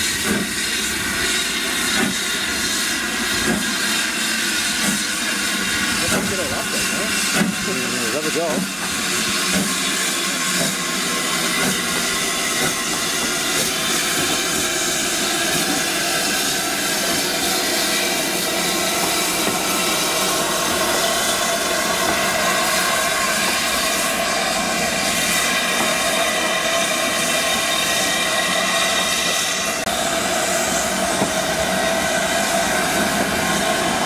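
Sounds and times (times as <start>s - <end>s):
steam locomotive hissing steam: 0.0s - 34.0s.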